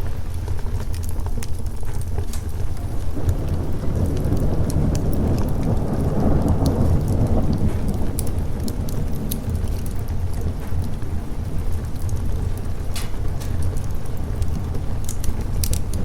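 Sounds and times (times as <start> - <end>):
sharp crackles: 0.0 - 16.0
steady rain: 0.0 - 16.0
thunder rumbling: 1.6 - 16.0.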